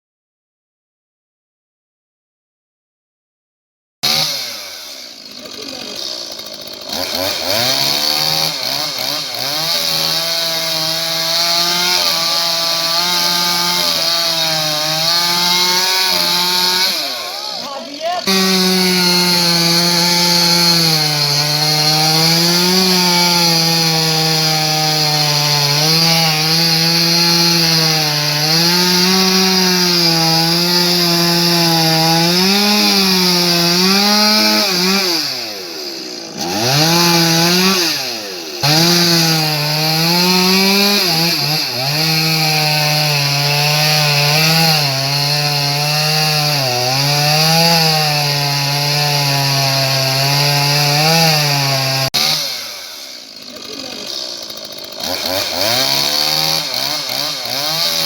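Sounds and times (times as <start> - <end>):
chainsaw cutting tree: 4.0 - 58.0.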